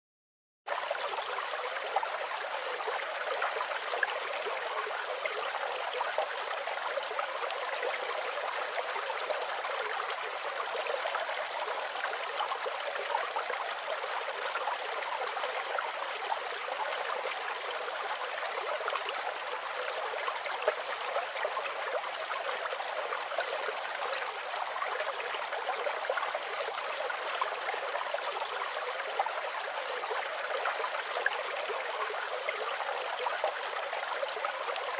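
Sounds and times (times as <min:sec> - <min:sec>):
stream babbling and trickling: 0:00.7 - 0:34.9.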